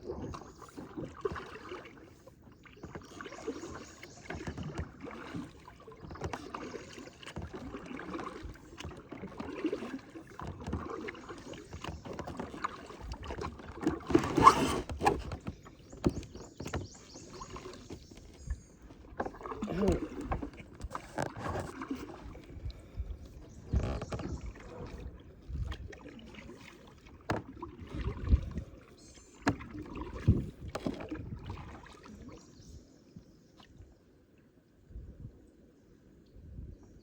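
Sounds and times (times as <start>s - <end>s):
paddle splashing in water: 0.0s - 34.4s
paddle knocking on hull: 0.1s - 32.0s.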